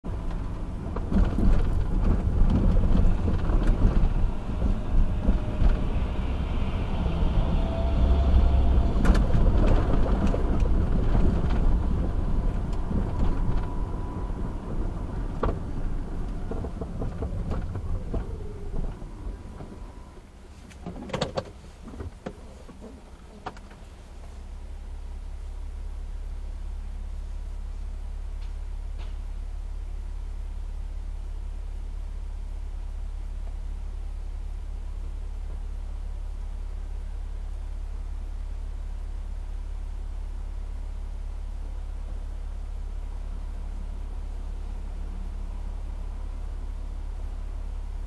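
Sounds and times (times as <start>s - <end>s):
car interior road rumble: 0.0s - 48.0s.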